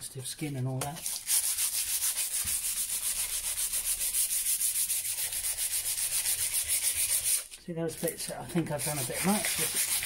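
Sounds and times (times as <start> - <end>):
sandpaper rubbing on wood: 1.0 - 10.0.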